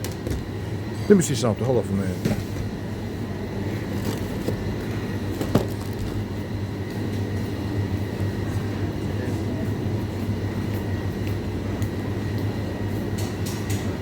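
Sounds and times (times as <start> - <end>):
supermarket ambience hum: 0.0 - 14.0.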